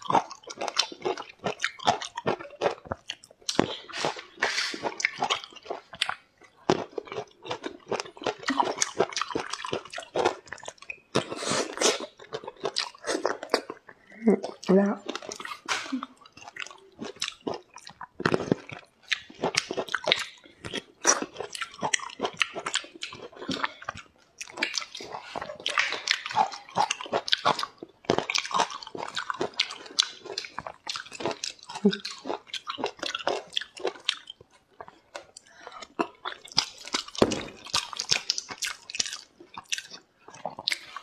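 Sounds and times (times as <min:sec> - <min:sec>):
chewing juicy fruit: 0:00.0 - 0:41.0.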